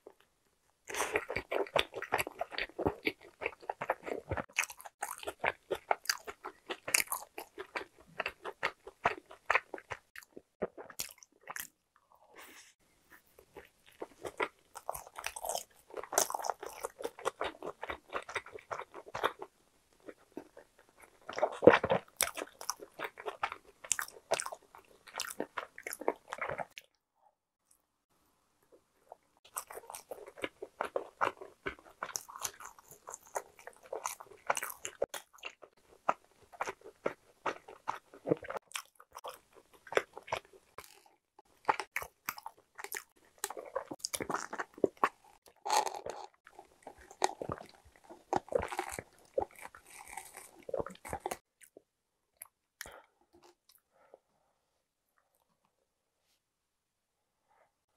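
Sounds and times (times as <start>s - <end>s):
person chewing pastry: 0.8s - 26.9s, 28.7s - 54.0s.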